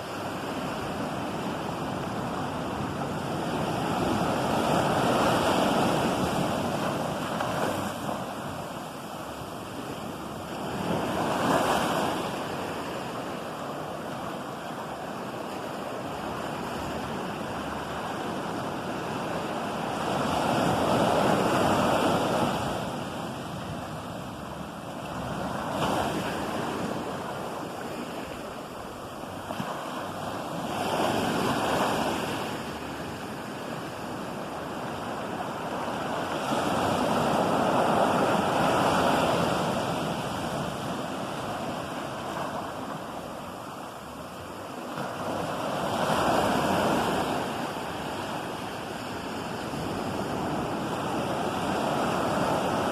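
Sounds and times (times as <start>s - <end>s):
ocean waves breaking: 0.0s - 52.9s
wind on microphone: 0.0s - 52.9s.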